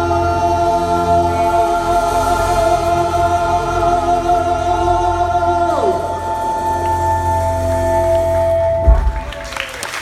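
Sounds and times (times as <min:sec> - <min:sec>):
voices holding a sustained chord: 0:00.0 - 0:08.2
low musical backing: 0:00.0 - 0:10.0.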